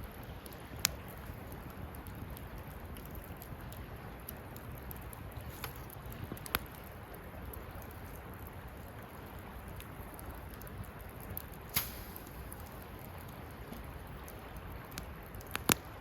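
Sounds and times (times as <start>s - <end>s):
campfire crackling: 0.0s - 16.0s
wood popping in fire: 0.0s - 16.0s.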